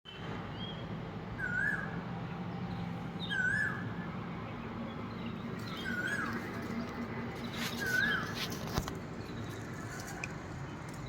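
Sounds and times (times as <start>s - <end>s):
steady low hum: 0.1s - 11.0s
asian koel calling: 0.5s - 11.0s.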